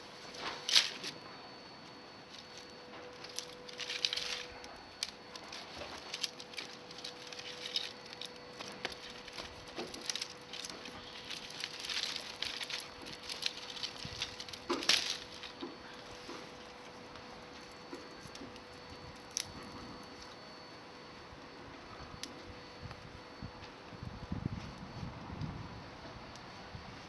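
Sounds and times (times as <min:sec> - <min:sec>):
small fire of twigs crackling: 0:00.0 - 0:23.0.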